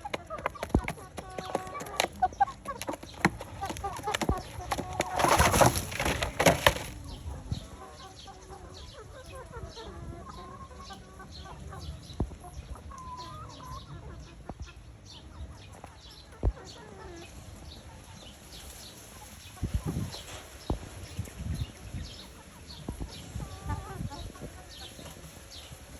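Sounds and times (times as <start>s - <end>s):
chickens clucking: 0.0s - 20.5s, 22.3s - 25.6s.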